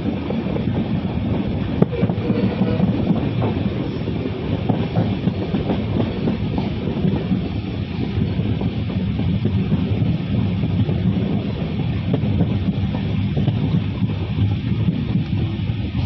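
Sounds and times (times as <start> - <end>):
train wheels rumbling on rail: 0.0 - 16.0
wheel clacks: 0.0 - 16.0.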